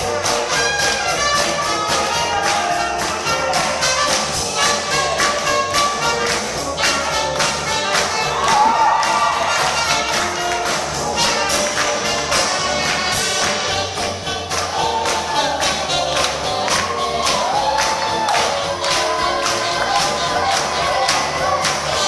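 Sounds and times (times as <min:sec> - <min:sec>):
live band music: 0:00.0 - 0:22.0
quick drum beat: 0:00.0 - 0:22.0.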